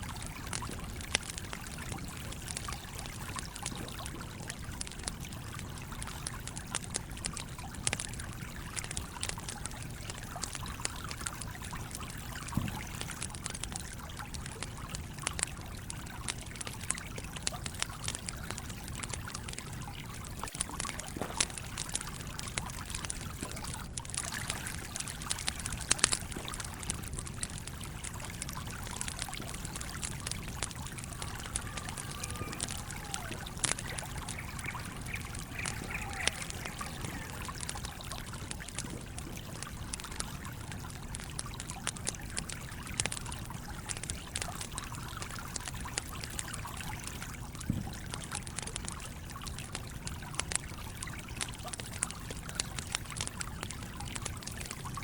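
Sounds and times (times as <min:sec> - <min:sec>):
campfire crackling and popping: 0:00.0 - 0:55.0
stream trickling: 0:00.0 - 0:55.0.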